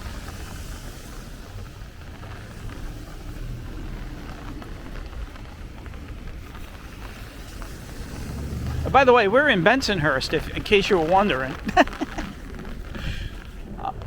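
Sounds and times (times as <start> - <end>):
rain falling: 0.0 - 14.0
wind rumbling on microphone: 0.0 - 14.0.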